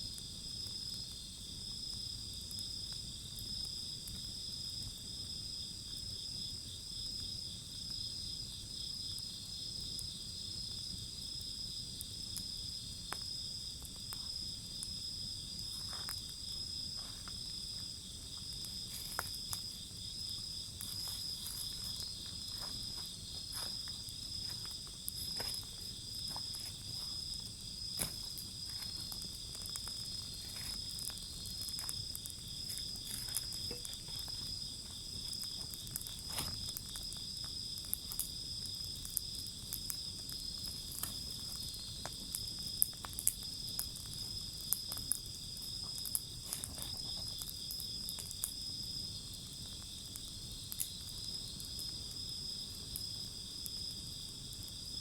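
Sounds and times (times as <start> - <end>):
fire popping: 0.0 - 55.0
insects trilling: 0.0 - 55.0
wood fire crackling: 0.0 - 55.0.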